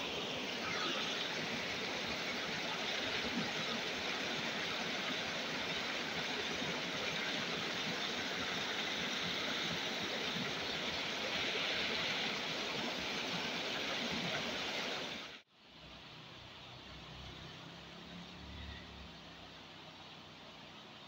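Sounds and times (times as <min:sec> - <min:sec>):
river flowing over rocks: 0:00.0 - 0:21.0.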